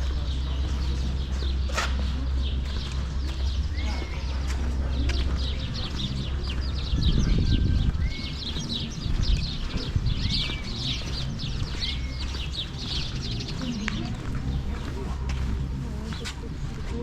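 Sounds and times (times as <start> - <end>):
low rumble: 0.0 - 17.0
small birds chirping and twittering: 0.0 - 17.0.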